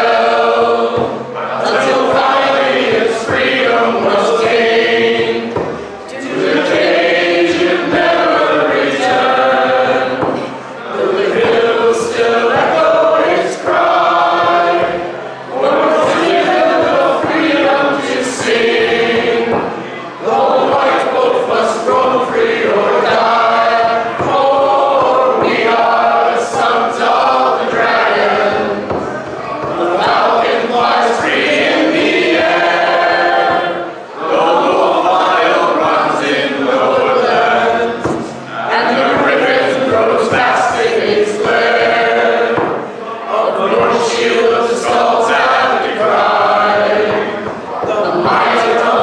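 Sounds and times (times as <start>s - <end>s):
people singing unaccompanied: 0.0s - 49.0s.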